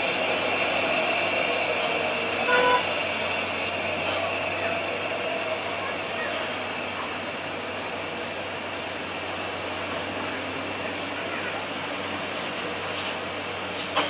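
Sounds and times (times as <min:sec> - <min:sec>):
bus diesel engine running: 0:00.0 - 0:14.0
truck engines: 0:00.0 - 0:14.0.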